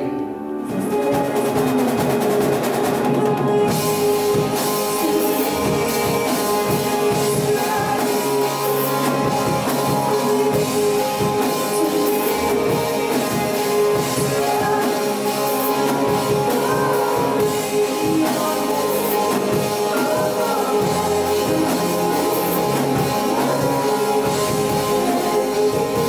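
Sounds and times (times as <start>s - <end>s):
person singing: 0.0s - 26.0s
worship band playing rock: 0.0s - 26.0s.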